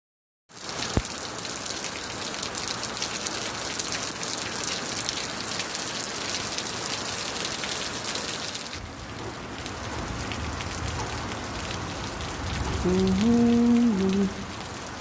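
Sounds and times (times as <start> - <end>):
heavy rain patter: 0.5 - 15.0.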